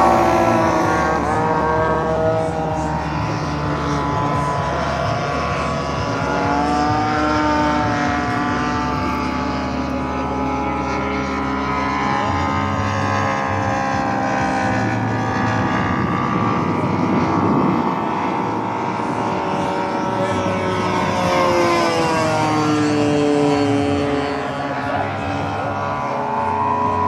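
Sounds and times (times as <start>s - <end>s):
model plane engine and propeller: 0.0s - 27.0s.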